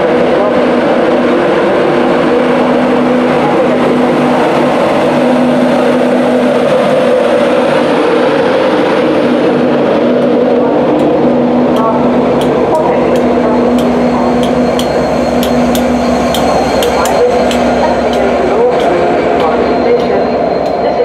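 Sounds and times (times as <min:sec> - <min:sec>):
humming tone: 0:00.0 - 0:21.0.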